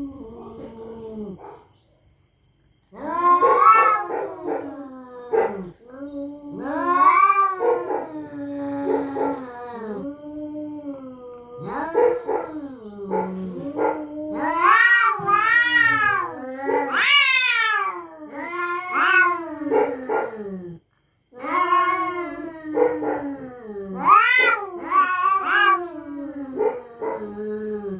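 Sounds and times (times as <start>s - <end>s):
cats yowling: 3.0s - 27.9s.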